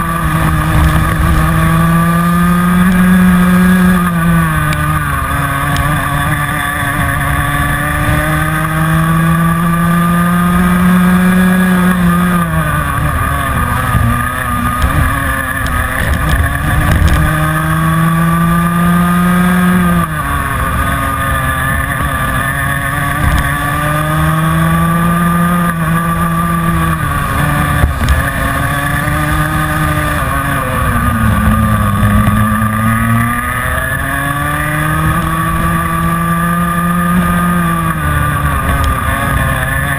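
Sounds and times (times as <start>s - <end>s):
kart two-stroke engine racing: 0.0s - 39.9s.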